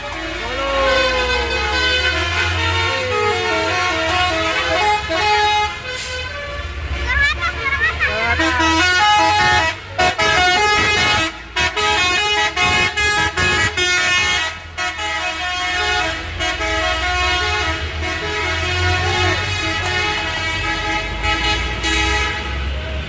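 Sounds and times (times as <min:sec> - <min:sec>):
musical bus horn playing a tune: 0:00.0 - 0:22.8
bus engine running: 0:00.0 - 0:23.0.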